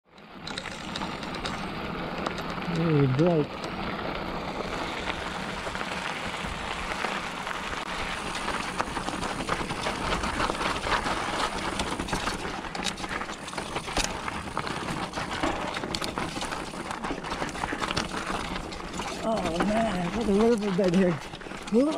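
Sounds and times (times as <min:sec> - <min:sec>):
bike chain and frame rattling: 0:00.0 - 0:21.9
tyre and wind noise: 0:00.1 - 0:21.9.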